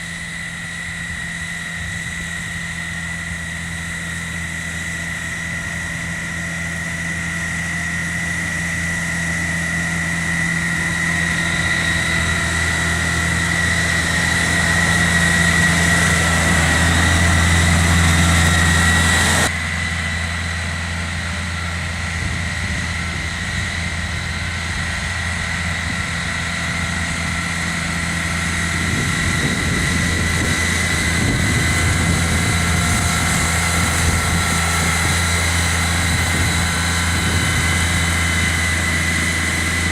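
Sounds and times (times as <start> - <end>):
snow blower high whine: 0.0 - 39.9
tractor engine running: 0.0 - 39.9.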